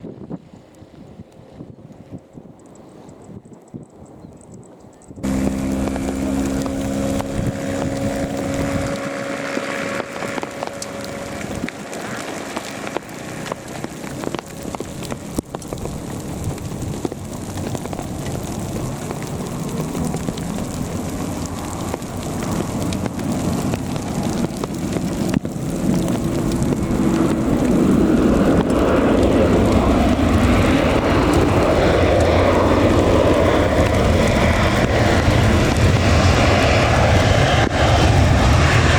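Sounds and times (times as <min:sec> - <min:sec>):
jet engine rushing noise: 0:05.2 - 0:38.9
jet engines whining: 0:05.2 - 0:38.9.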